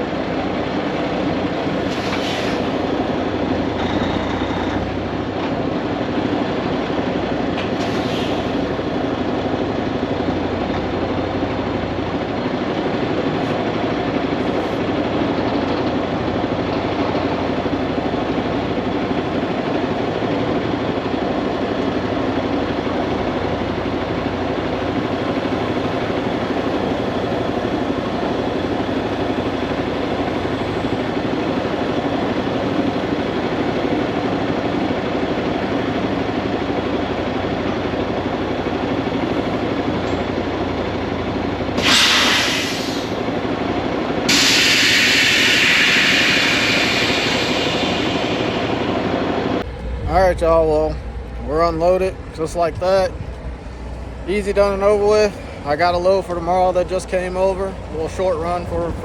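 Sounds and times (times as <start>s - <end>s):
truck engine rumble: 0.0s - 59.0s.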